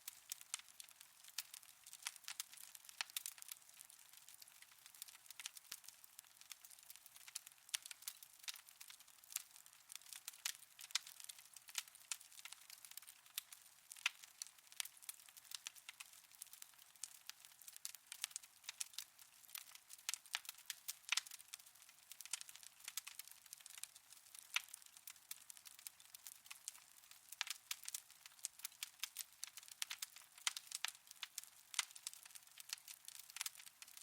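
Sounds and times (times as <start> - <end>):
faint fire hiss: 0.0 - 34.0
wood fire crackling: 0.0 - 34.0.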